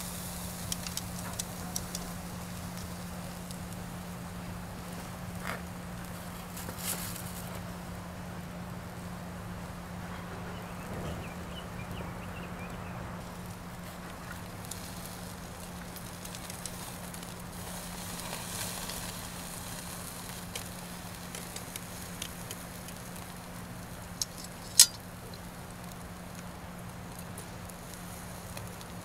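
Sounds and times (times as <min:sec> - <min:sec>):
steak sizzling on grill: 0:00.0 - 0:08.0, 0:12.6 - 0:29.0
coals crackling: 0:00.0 - 0:29.0.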